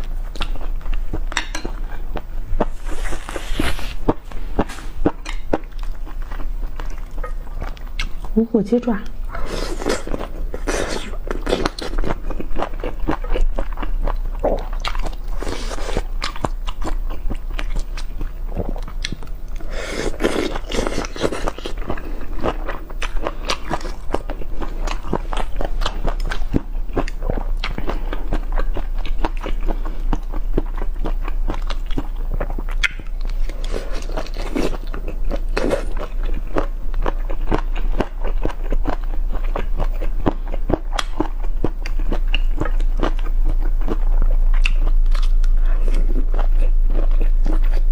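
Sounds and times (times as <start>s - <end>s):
steady low hum: 0.0s - 47.9s
crunchy chewing: 9.2s - 47.9s.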